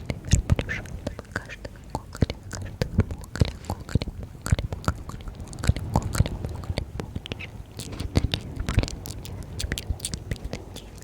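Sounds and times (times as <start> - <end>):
wet lip and tongue clicks: 0.0 - 11.0.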